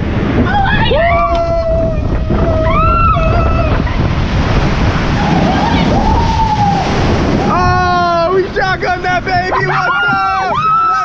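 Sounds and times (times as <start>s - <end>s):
wind on microphone: 0.0s - 10.9s
rushing water: 0.0s - 11.0s.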